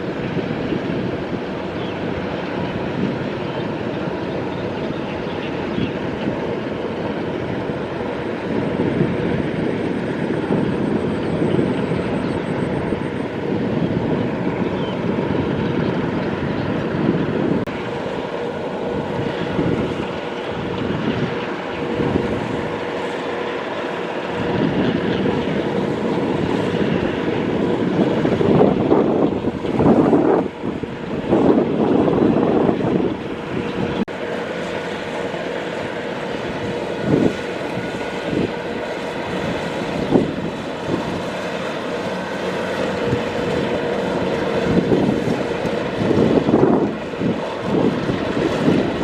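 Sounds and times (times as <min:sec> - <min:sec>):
combine harvester running: 0:00.0 - 0:49.0.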